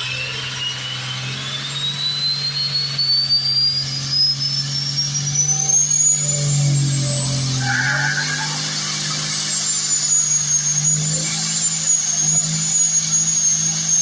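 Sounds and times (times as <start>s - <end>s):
high whistle rising in pitch: 0.0s - 14.0s
low mechanical hum: 0.0s - 14.0s.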